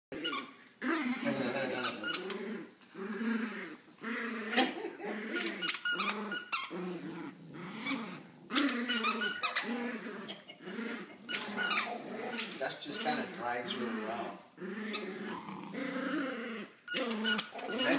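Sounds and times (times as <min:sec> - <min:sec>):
dogs play-growling: 0:00.2 - 0:17.9.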